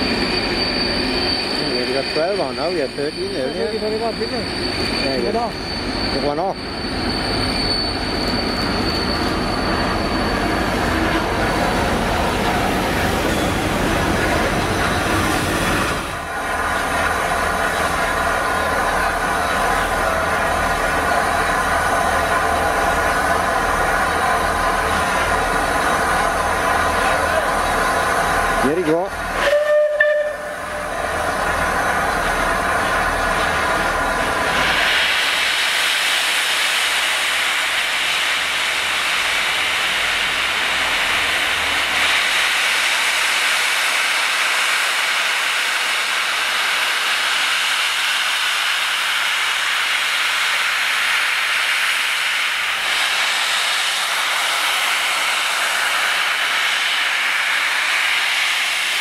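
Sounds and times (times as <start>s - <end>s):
locomotive blowing off steam: 0.0s - 59.0s.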